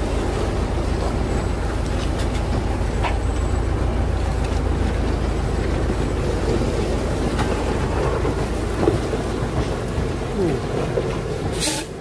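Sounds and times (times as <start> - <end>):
truck engine running under load: 0.0 - 12.0.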